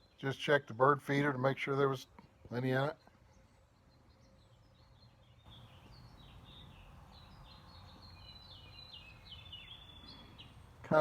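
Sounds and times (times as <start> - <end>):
faint songbirds chirping: 0.0 - 11.0.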